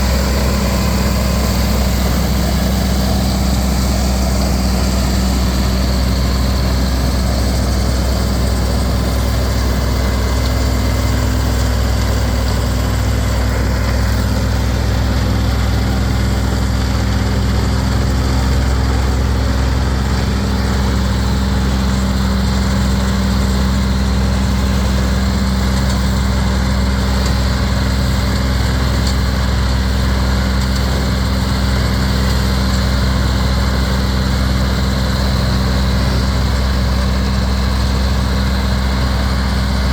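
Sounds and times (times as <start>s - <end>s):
silage harvester running: 0.0s - 39.9s
tractor diesel engine running: 0.0s - 39.9s.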